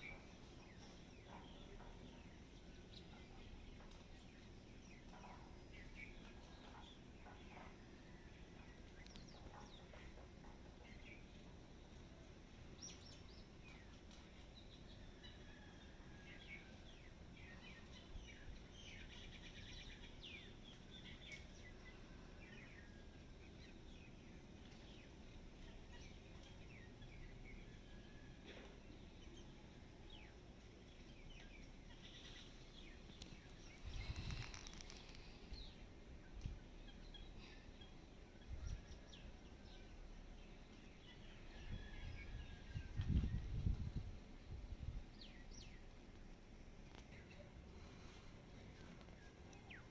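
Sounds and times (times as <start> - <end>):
birds chirping and trilling: 0.0 - 12.0, 12.7 - 46.1.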